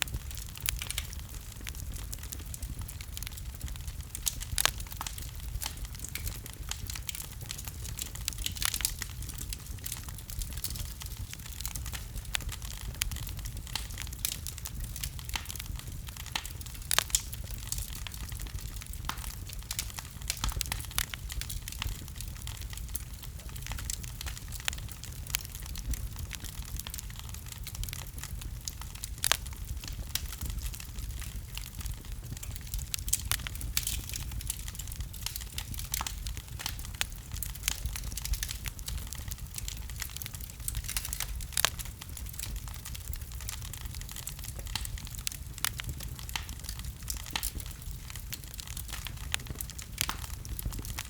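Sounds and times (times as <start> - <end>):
fire crackling and popping: 0.0 - 51.0.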